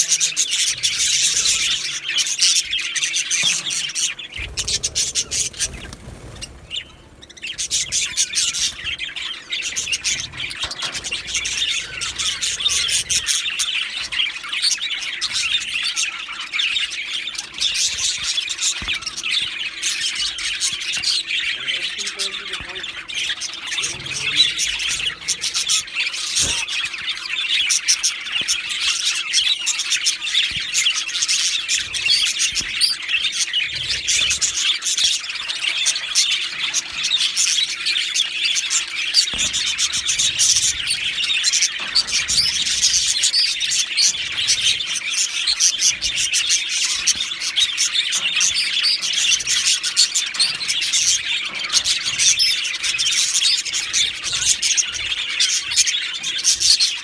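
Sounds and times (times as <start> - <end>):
budgerigars chattering and warbling: 0.0 - 57.0.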